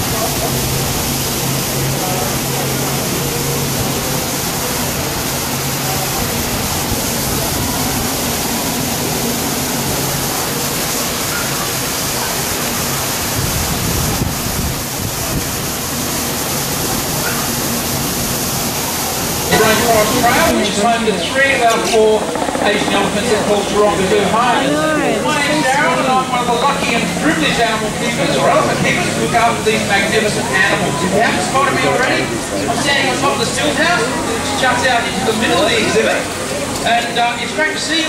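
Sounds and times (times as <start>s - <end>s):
waterfall pouring into pool: 0.0s - 21.2s, 25.7s - 38.0s.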